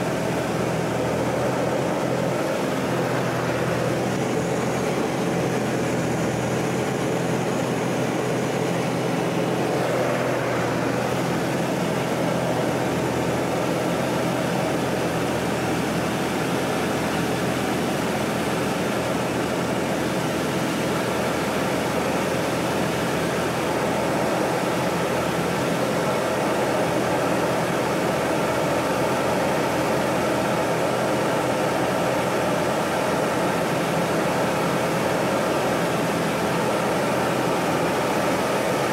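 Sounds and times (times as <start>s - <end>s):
propeller plane engine: 0.0s - 38.9s.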